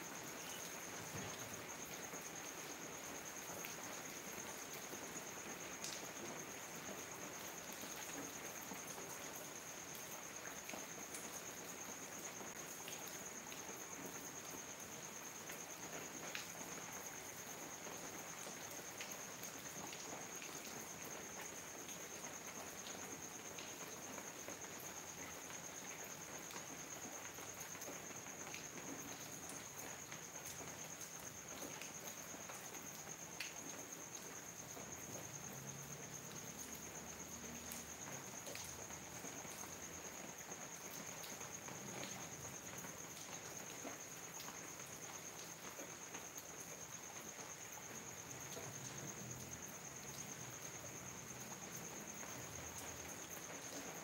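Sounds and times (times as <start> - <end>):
rain on leaves and paving: 0.0 - 54.0
cricket trilling: 0.1 - 54.0.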